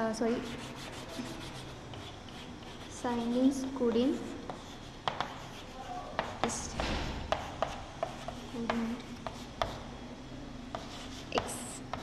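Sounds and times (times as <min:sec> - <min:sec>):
chalk scratching strokes: 0:00.1 - 0:09.9, 0:10.7 - 0:12.0
chalk tapping on blackboard: 0:00.4 - 0:09.8, 0:10.7 - 0:12.0.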